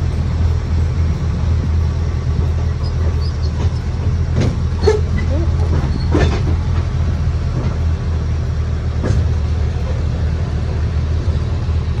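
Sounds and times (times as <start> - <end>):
low rumble of motor and wheels: 0.0 - 12.0.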